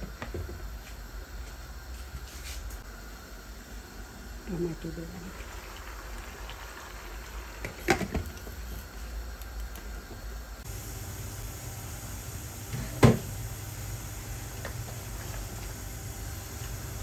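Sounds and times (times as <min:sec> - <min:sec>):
pot simmering hiss: 0:00.1 - 0:17.0.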